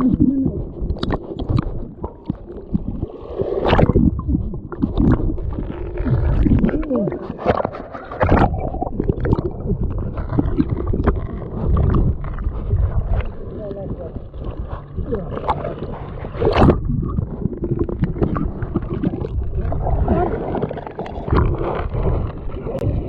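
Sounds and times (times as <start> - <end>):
water sloshing against microphone: 0.0 - 23.0.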